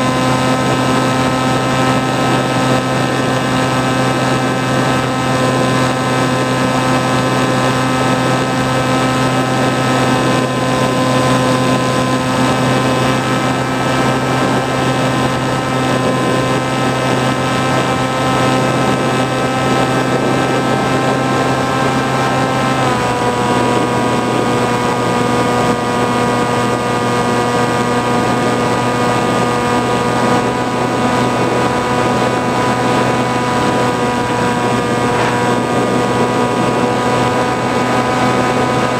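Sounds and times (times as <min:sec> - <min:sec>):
model aircraft motor whine: 0:00.0 - 0:38.9
rush of air: 0:00.0 - 0:38.9.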